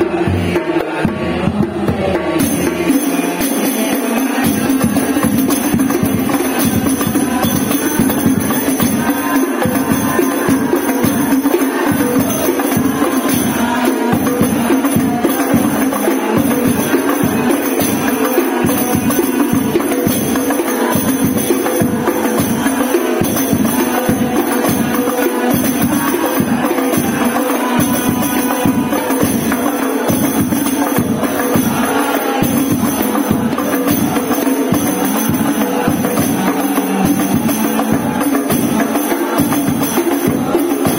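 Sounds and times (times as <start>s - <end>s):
frame drums beating fast rhythm: 0.0s - 40.9s.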